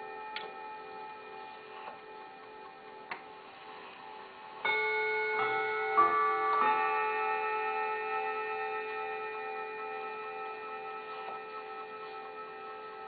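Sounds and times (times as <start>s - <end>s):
mantel clock chime: 0.0s - 13.0s.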